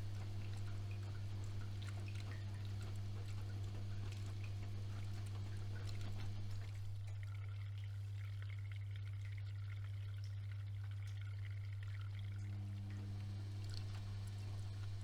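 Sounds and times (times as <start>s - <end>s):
low electrical hum: 0.0s - 15.0s
water pouring into washing machine: 0.0s - 15.0s.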